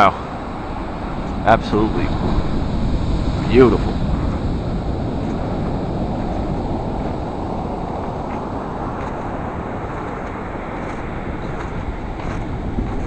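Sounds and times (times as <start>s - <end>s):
ocean waves breaking: 0.0s - 13.0s
wind buffeting microphone: 0.0s - 13.0s.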